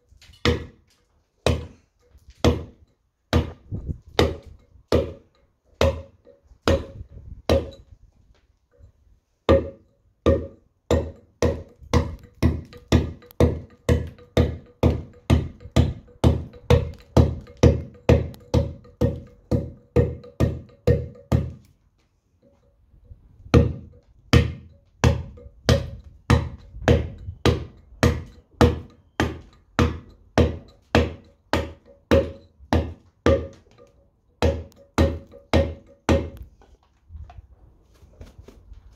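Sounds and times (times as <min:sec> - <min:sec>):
mallet striking chisel into stone: 0:00.4 - 0:00.8, 0:01.4 - 0:01.8, 0:02.4 - 0:07.9, 0:09.5 - 0:21.7, 0:23.5 - 0:36.5.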